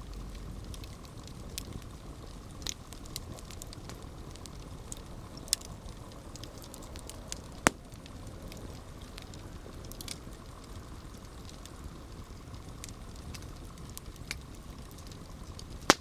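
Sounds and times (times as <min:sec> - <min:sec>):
campfire crackling: 0:00.0 - 0:16.0
fire popping: 0:00.0 - 0:16.0.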